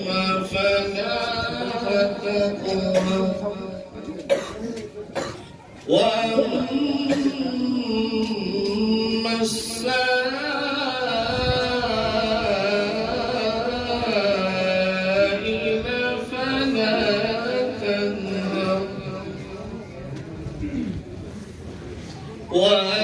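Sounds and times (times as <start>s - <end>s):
man reciting melodically: 0.0s - 5.1s, 5.8s - 20.1s, 22.5s - 23.0s.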